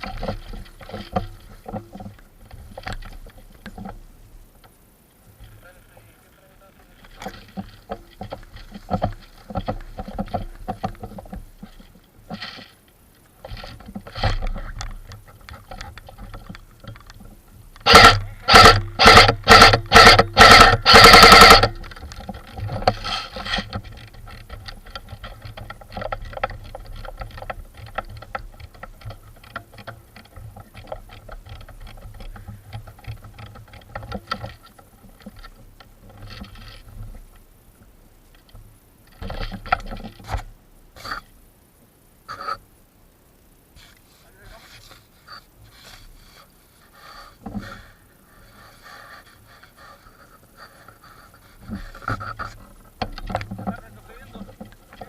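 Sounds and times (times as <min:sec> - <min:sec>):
rustling through undergrowth: 0:00.0 - 0:55.0.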